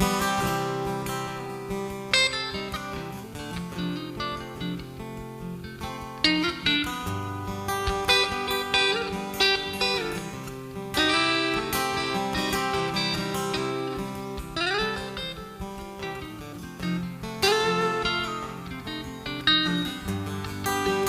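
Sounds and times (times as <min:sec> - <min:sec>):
picked guitar melody: 0:00.0 - 0:21.0
strummed acoustic guitar: 0:00.0 - 0:21.0.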